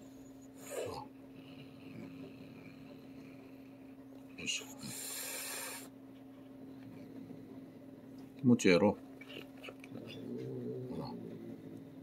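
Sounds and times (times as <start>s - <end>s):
cat growling: 0.6s - 8.4s, 9.2s - 12.0s.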